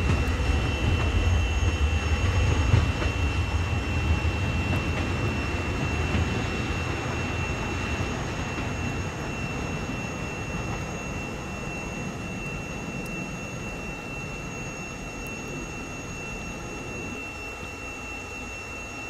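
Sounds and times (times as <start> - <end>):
distant electric train rumble: 0.0 - 19.0
high-pitched whine: 0.0 - 19.0.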